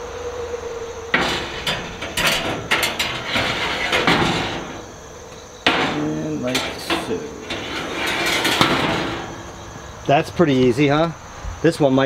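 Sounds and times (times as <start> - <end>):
wire racks clinking and scraping metal: 1.0 - 10.9.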